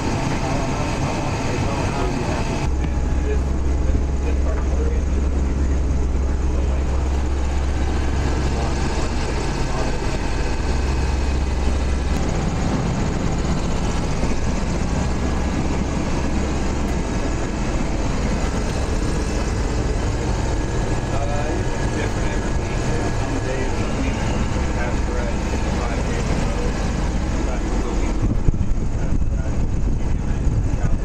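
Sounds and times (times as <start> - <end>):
engines and propellers droning: 0.0 - 31.0.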